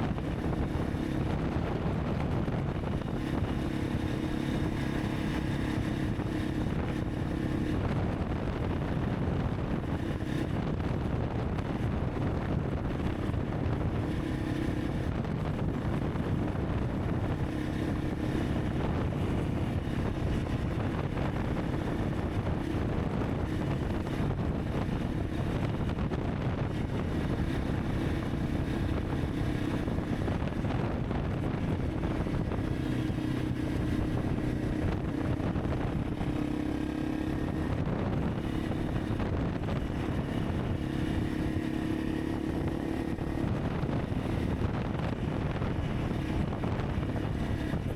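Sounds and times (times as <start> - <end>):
motorcycle engine running: 0.0 - 47.9
wind buffeting microphone: 0.0 - 47.9.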